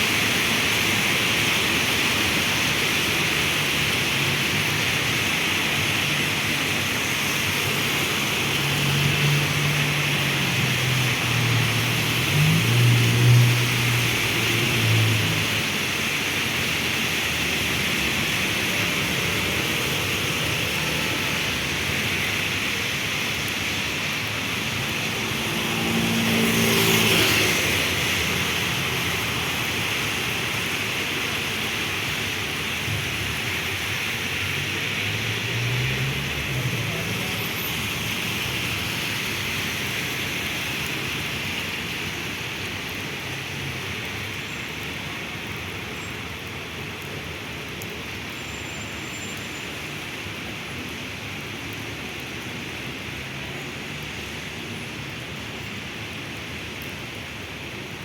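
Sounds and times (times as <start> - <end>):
vehicles passing: 0.0 - 49.0, 49.6 - 58.0
heavy rain on street: 0.0 - 58.0.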